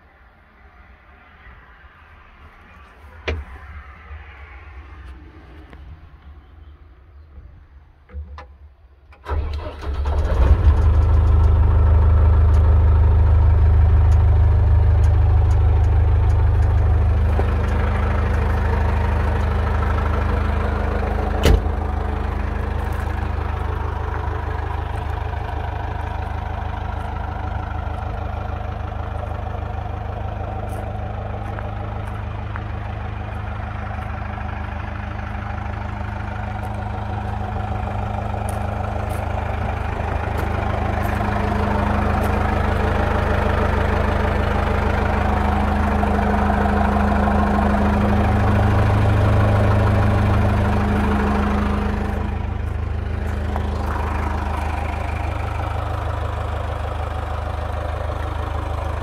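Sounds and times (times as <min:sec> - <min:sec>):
diesel engine starting and idling: 0:06.4 - 0:59.0.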